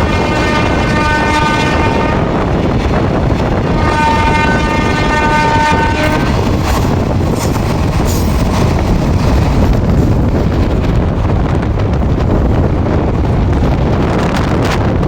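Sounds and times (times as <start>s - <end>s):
train wheels rumbling on rail: 0.0s - 15.0s
wind buffeting microphone: 0.0s - 15.0s.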